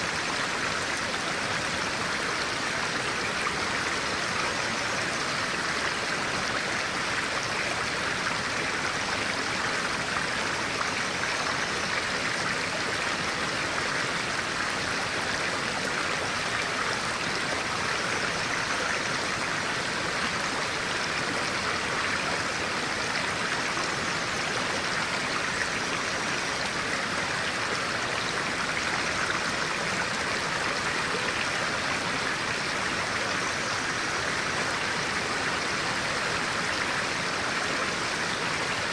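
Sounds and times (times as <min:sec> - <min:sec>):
stream of water running: 0:00.0 - 0:38.9.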